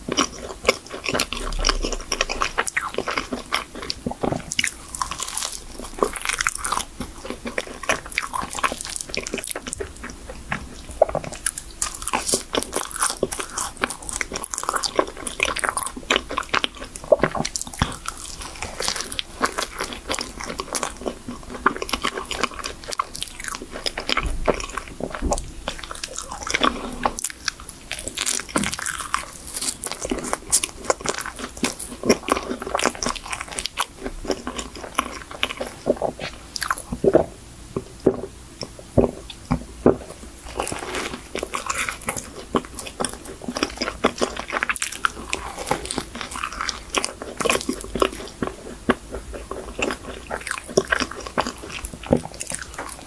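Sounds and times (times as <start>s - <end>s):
person biting and chewing: 0.0s - 53.0s.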